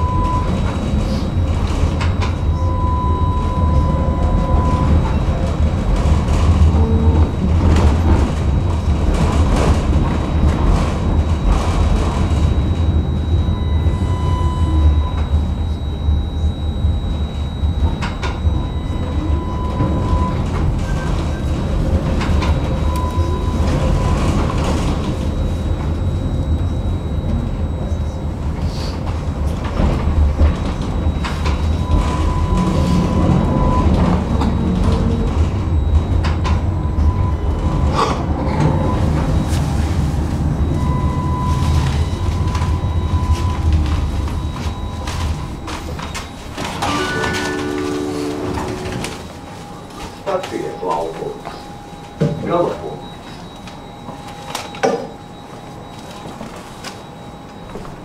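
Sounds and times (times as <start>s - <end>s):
tram rumbling on rails: 0.0s - 58.0s.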